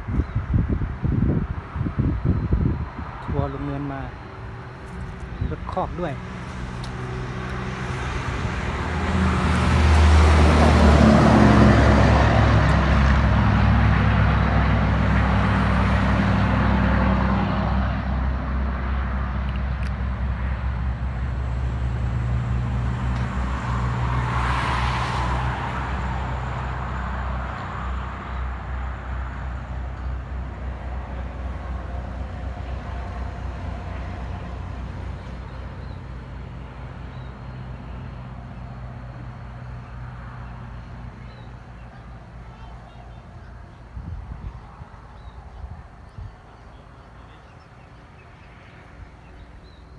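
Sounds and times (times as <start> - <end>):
large vehicle engines passing: 0.0 - 49.9.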